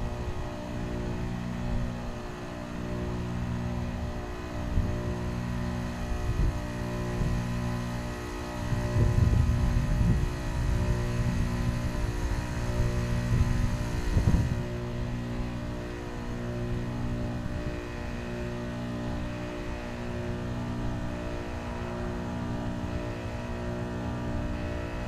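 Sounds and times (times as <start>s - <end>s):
heat pump compressor hum: 0.0s - 25.0s.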